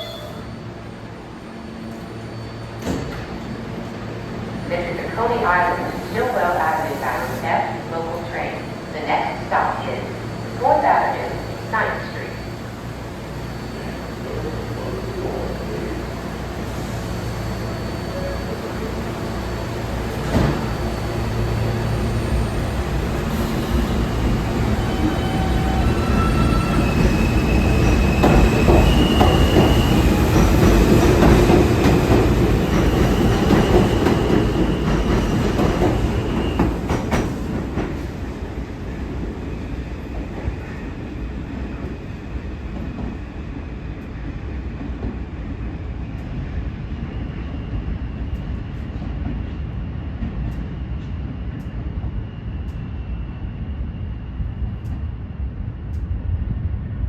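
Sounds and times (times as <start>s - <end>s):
subway train propulsion whine: 0.0s - 57.0s.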